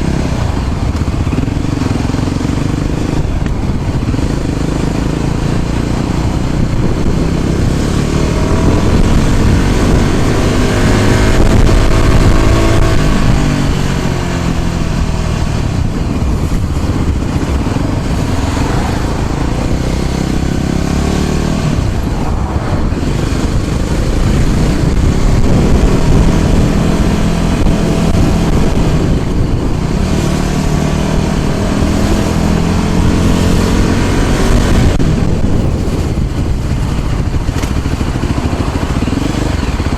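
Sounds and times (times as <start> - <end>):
road and wind noise: 0.0 - 39.9
vehicle engine accelerating: 0.0 - 39.9.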